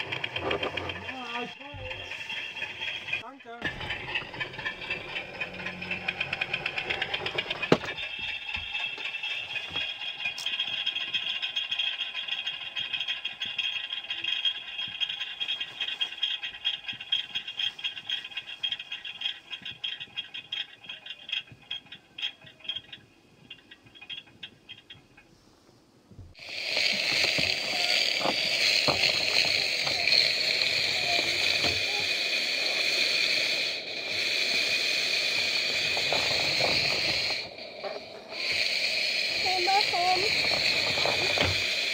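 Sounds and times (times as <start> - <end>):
steam locomotive hissing: 0.0 - 24.3, 26.3 - 41.9
model locomotive mechanical rattle: 0.0 - 41.9.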